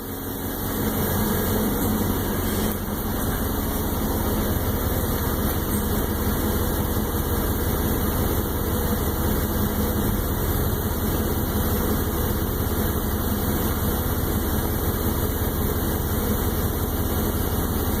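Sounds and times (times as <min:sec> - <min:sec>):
pickup truck engine idling: 0:00.0 - 0:18.0.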